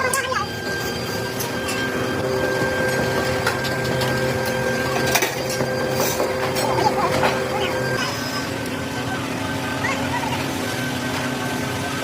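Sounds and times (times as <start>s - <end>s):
machine tool whine: 0.0s - 12.0s.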